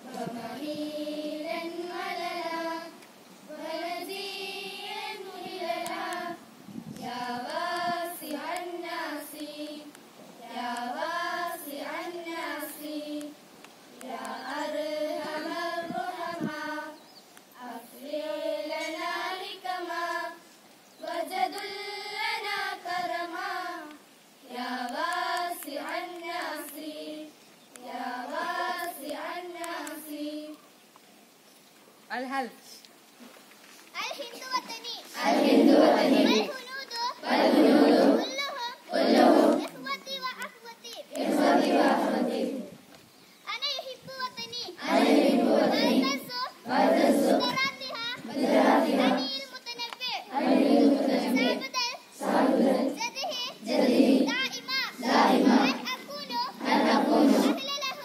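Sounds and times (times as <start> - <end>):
girls singing prayer unaccompanied: 0.0 - 30.8, 34.2 - 42.9, 43.8 - 58.0.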